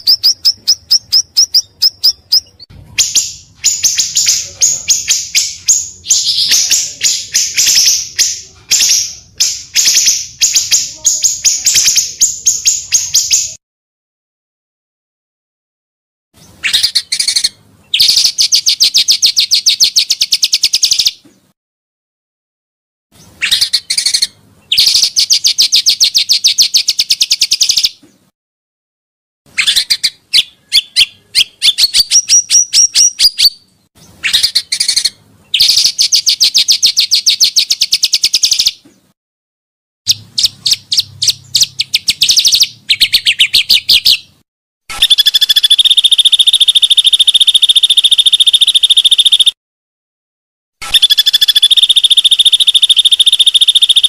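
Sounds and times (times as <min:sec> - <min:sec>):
bird song with rapid trills: 0:00.0 - 0:13.6, 0:16.4 - 0:21.2, 0:23.2 - 0:28.3, 0:29.5 - 0:39.2, 0:40.1 - 0:49.6, 0:50.8 - 0:54.0.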